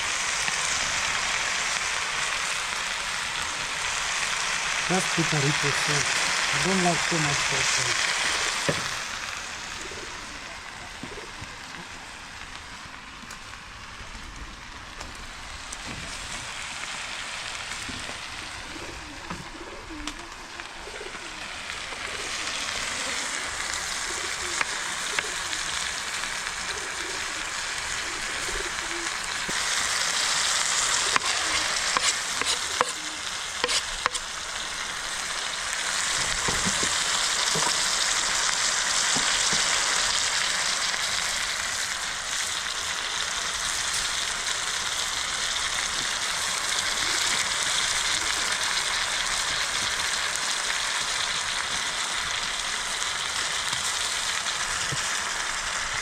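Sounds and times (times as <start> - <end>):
food sizzling in a pan: 0.0 - 13.9, 15.3 - 56.0.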